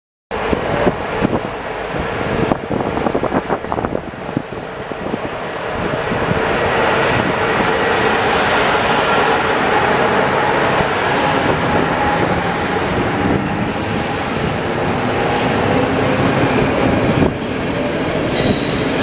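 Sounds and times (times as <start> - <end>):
electric locomotive humming: 0.4 - 19.0
wind buffeting microphone: 0.4 - 19.0.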